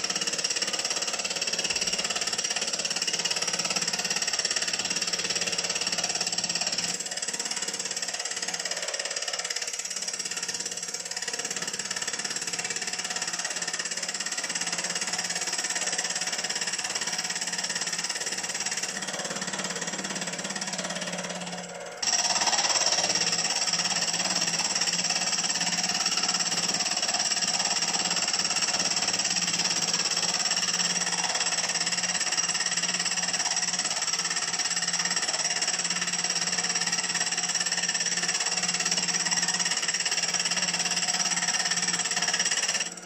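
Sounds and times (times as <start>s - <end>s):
cutter working metal: 0.0s - 43.0s.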